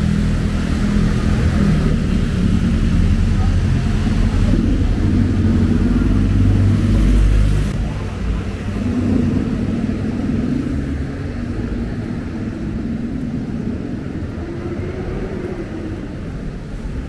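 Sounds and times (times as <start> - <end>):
steady traffic noise: 0.0 - 17.0
vehicle engine rumbling close by: 0.0 - 17.0.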